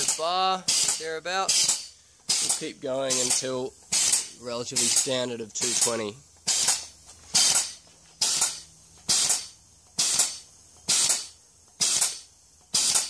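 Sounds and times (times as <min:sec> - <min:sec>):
pump venting hiss puffs: 0:00.0 - 0:13.0.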